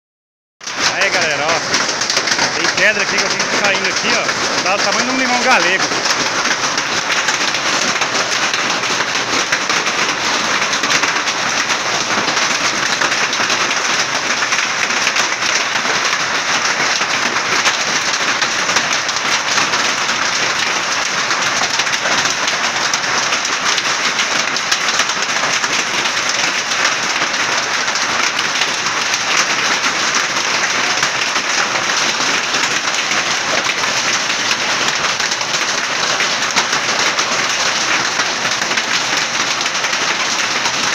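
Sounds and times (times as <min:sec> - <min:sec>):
heavy rain and hail: 0:00.6 - 0:40.9.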